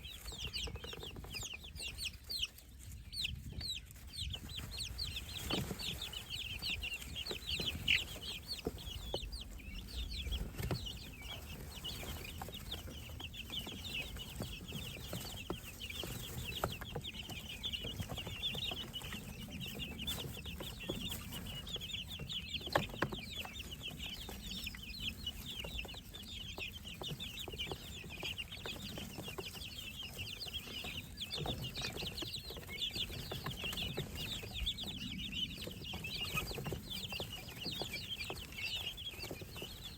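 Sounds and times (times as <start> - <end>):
baby birds peeping: 0.0 - 39.9.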